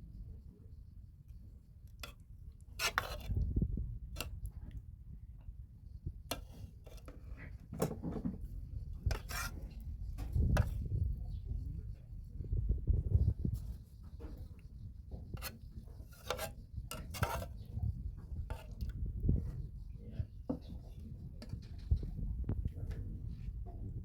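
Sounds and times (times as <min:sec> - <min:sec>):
soft handling noise: 0:01.2 - 0:24.0.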